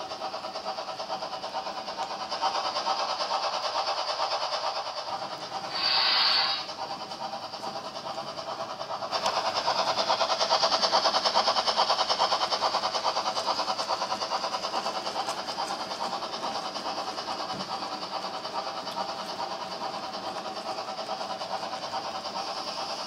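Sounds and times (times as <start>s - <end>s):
model train wheels clicking: 0.0s - 23.0s.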